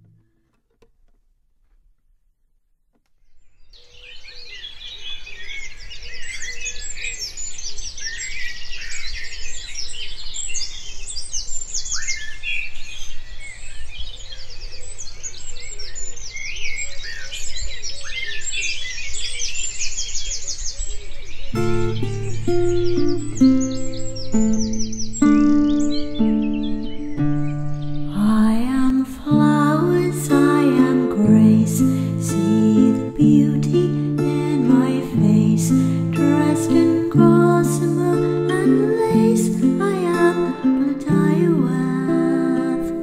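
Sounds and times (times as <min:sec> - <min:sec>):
songbirds chirping and trilling: 0:03.2 - 0:43.0.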